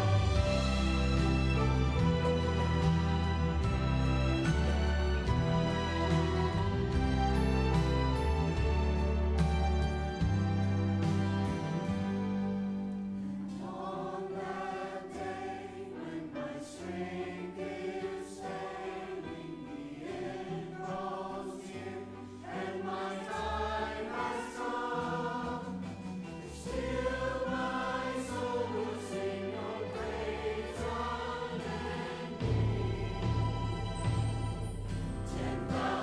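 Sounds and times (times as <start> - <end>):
choir singing a hymn: 0.0 - 36.0
low held accompaniment notes: 0.0 - 36.0.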